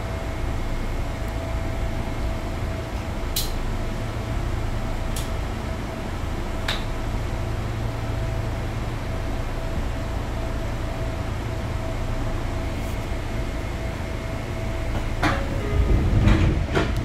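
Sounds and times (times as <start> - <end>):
constant hum: 0.0 - 17.0
train car rumble: 0.0 - 17.0.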